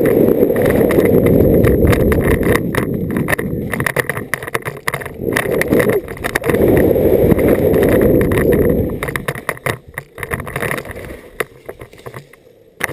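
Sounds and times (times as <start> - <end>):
wind buffeting microphone: 0.0 - 11.0
bike clattering over bumps: 0.0 - 12.9.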